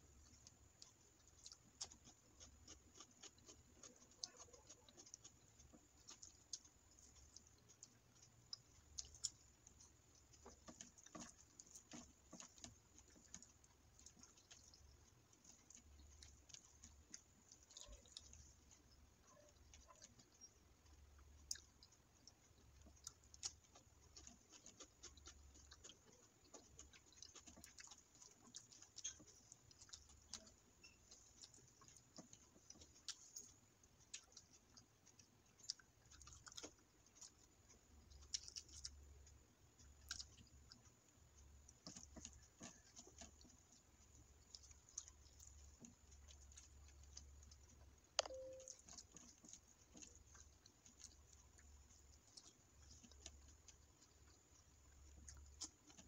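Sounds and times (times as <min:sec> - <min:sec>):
fingers mixing rice clicks: 0:00.0 - 0:56.0
person chewing with mouth smacks: 0:00.0 - 0:56.0.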